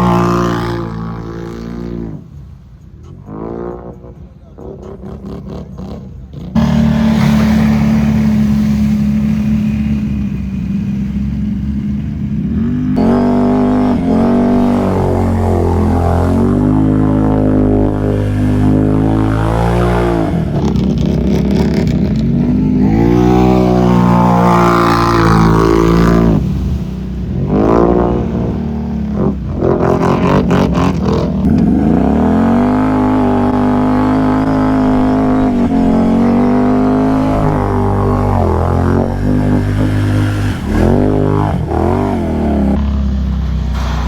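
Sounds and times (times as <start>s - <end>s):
atv engine revving: 0.0s - 2.4s, 3.0s - 44.0s.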